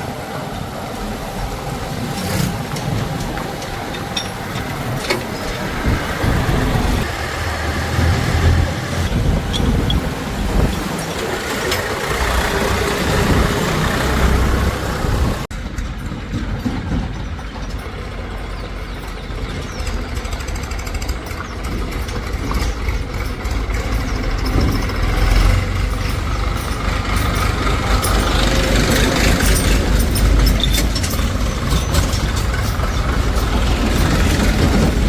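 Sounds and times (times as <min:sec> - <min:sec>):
heavy machinery diesel engines: 0:00.0 - 0:35.0.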